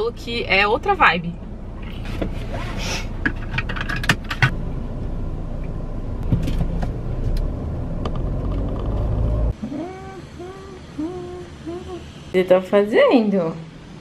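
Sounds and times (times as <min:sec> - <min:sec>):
car engine rumble from inside cabin: 0:00.0 - 0:12.4.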